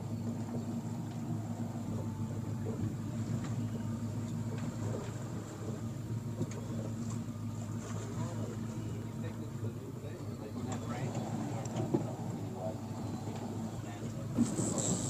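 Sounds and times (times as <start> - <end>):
boat engine low hum: 0.0 - 15.0.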